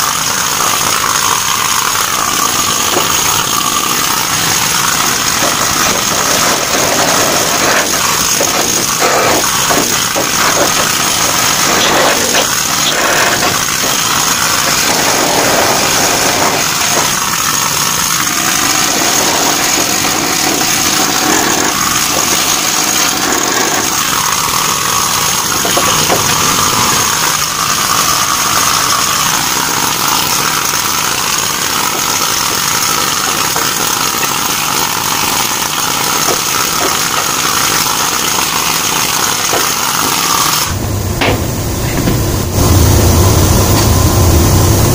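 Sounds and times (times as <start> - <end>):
pneumatic chipping hammer on steel: 0.0 - 42.7.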